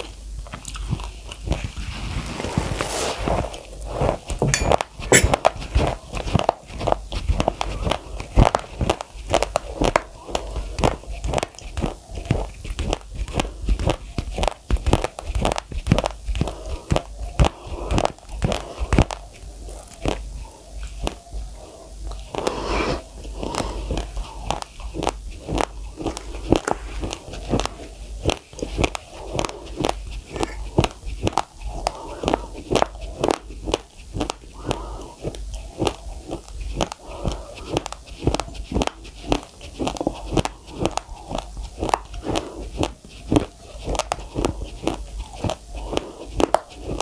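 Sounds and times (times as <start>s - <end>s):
chewing raw rice crunches: 0.0s - 47.0s.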